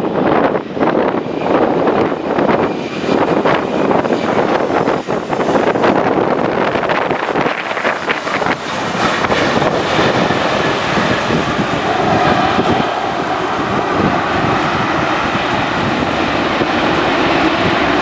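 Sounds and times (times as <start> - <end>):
jet engine noise: 0.0 - 18.0
wind buffeting microphone: 0.0 - 18.0.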